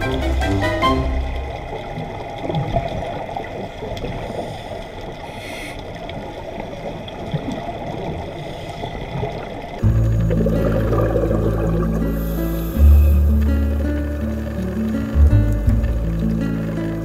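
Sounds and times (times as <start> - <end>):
underwater water rumble: 0.0 - 17.0
underwater exhaled bubbles: 1.6 - 17.0.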